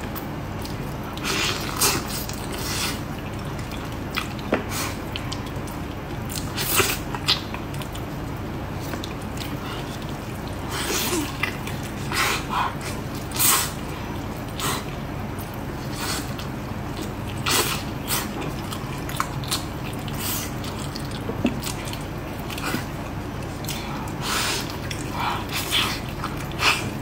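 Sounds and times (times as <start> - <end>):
wet chewing and lip-smacks: 0.0 - 27.0.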